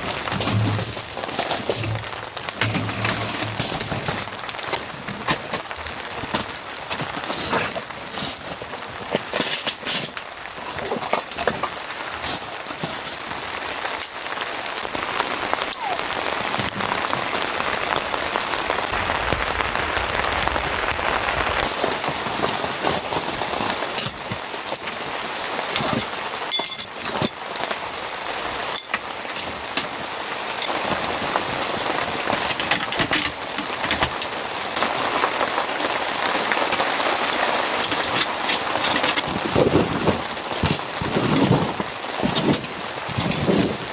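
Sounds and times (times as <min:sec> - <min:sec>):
rain falling: 0:00.0 - 0:43.9
raindrop hits: 0:00.0 - 0:43.9.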